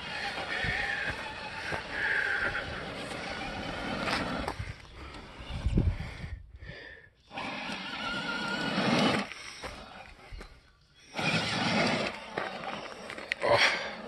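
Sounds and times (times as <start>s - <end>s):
electric motor whining: 0.0s - 6.4s, 7.2s - 14.0s.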